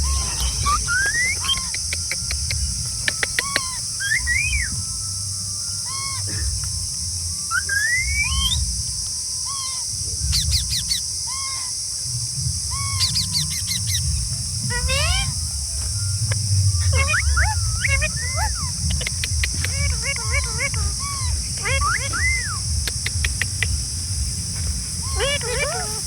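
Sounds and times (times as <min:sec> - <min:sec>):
parrots whistling calls: 0:00.0 - 0:06.7, 0:07.4 - 0:11.8, 0:12.7 - 0:26.0.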